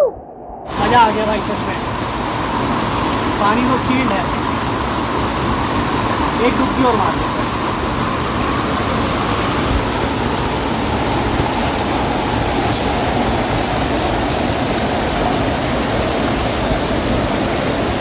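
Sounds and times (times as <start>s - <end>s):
water splashing: 0.7s - 18.0s
waterfall rushing into pool: 0.7s - 18.0s.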